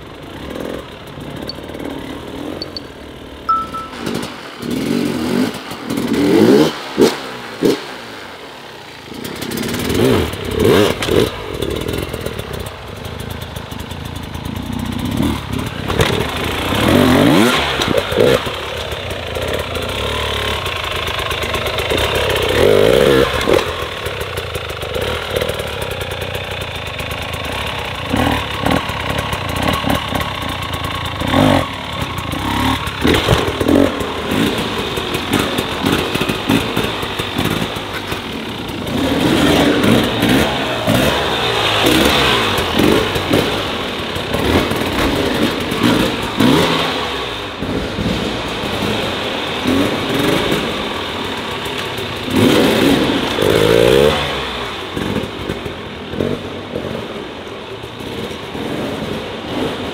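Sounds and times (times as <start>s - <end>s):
dirt bike engine revving: 0.3s - 8.2s, 9.1s - 12.5s, 14.5s - 18.8s, 19.4s - 26.4s, 27.5s - 57.2s.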